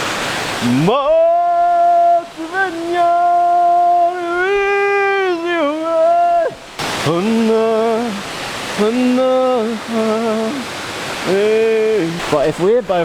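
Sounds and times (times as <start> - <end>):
stream water rushing: 0.0 - 13.0
person singing wordless tune: 0.6 - 12.3.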